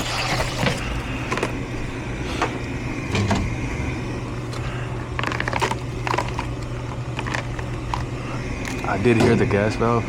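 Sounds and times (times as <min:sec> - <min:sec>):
furnace inducer motor humming: 0:00.0 - 0:10.0.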